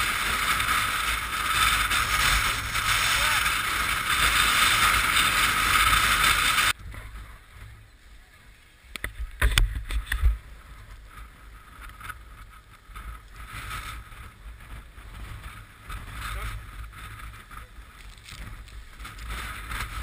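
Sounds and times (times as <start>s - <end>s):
skis sliding on snow: 0.0s - 8.9s, 10.1s - 20.0s
wind buffeting on camera: 0.0s - 20.0s.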